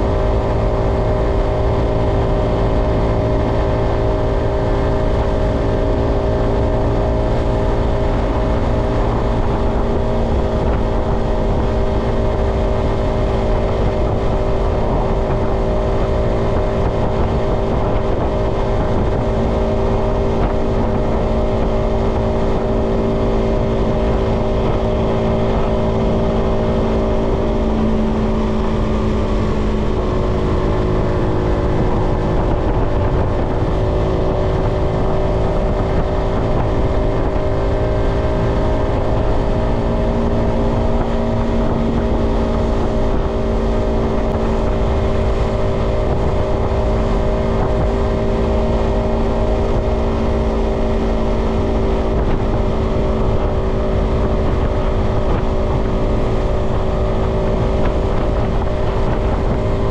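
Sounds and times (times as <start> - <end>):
heavy wind noise: 0.0 - 59.9
motorcycle engine running: 0.0 - 59.9.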